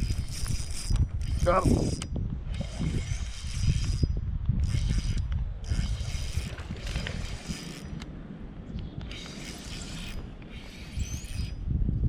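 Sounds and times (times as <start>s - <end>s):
fishing reel gears whirring: 0.0s - 8.1s, 9.1s - 11.6s.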